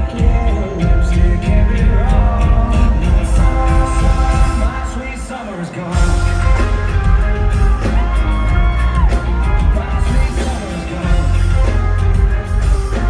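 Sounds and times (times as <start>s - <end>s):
live rock band: 0.0s - 13.0s.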